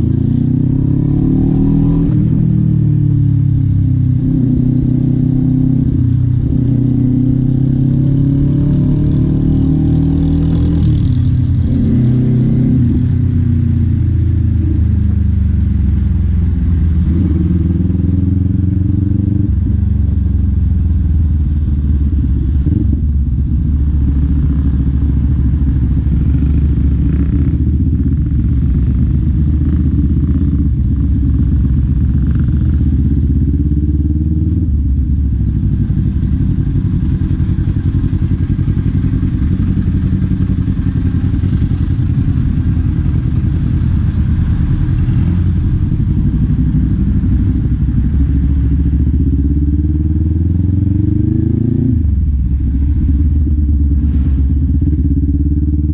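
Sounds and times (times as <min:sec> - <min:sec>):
motorcycle engine and exhaust: 0:00.0 - 0:55.9.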